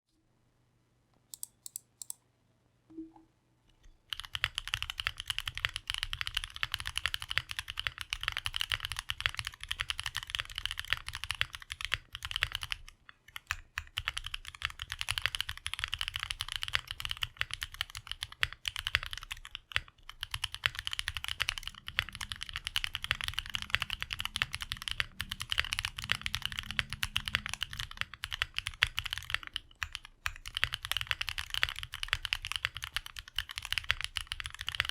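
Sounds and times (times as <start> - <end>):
fast typing on mechanical keyboard: 4.1 - 34.9.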